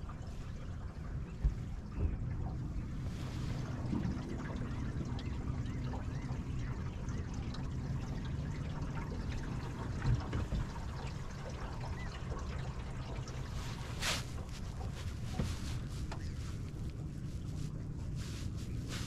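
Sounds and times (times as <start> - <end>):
steady low hum: 0.0 - 19.0
water trickling and lapping: 0.0 - 19.0.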